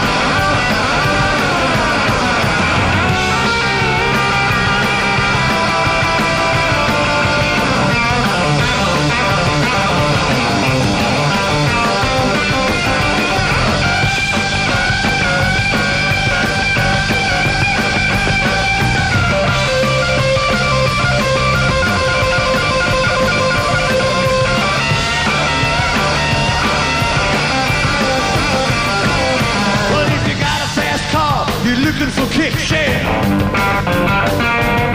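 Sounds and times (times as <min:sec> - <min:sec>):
electric guitar held notes: 0:00.0 - 0:30.3
live rock band instrumental: 0:00.0 - 0:34.9.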